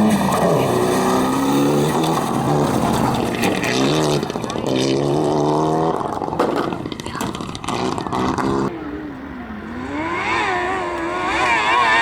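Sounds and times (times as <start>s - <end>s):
racing engine revving: 0.0s - 12.0s.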